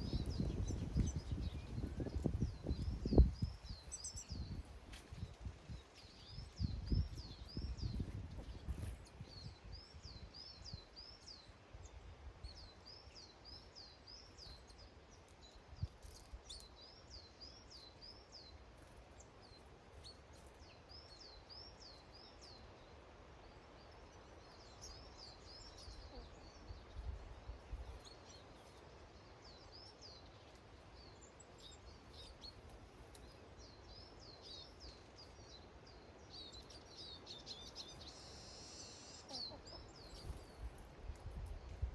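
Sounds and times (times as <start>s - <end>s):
small songbird singing: 0.0s - 41.9s.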